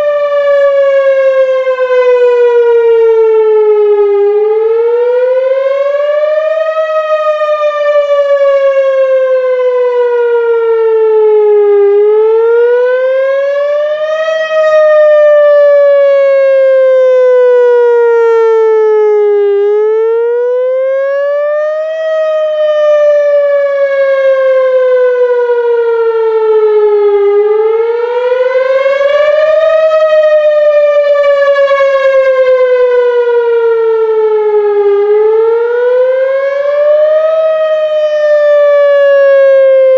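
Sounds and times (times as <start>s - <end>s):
tornado siren wailing: 0.0s - 39.9s.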